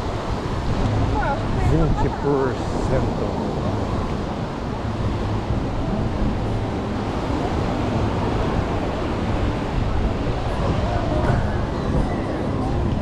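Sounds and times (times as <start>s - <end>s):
ocean surf on a beach: 0.0s - 13.0s
wind buffeting microphone: 0.0s - 13.0s.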